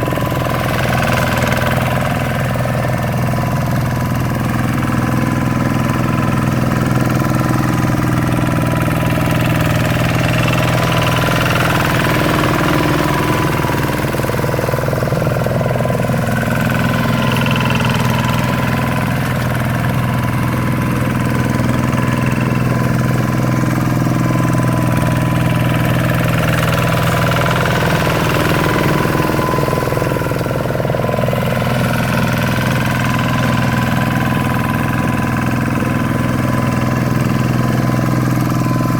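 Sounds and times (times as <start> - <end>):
diesel engine running steadily: 0.0 - 38.9.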